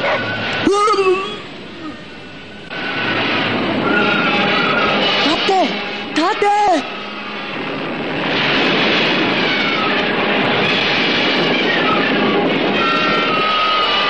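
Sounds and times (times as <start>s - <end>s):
heavy surging waves: 0.0s - 14.0s
rushing wind: 0.0s - 14.0s.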